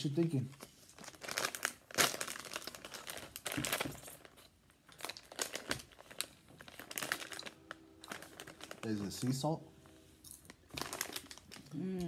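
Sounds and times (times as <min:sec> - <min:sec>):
snack bag crinkling: 0:00.3 - 0:09.5, 0:10.2 - 0:11.8.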